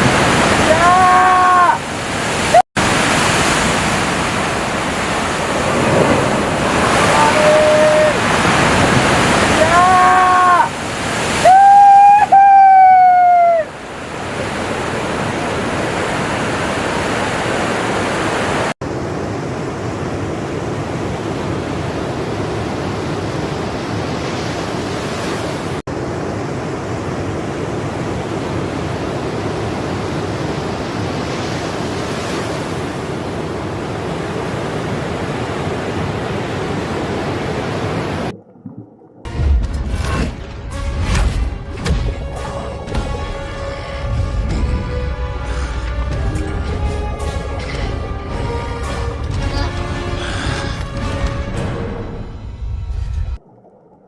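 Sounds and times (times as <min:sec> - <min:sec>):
rushing water noise: 0:00.0 - 0:54.0.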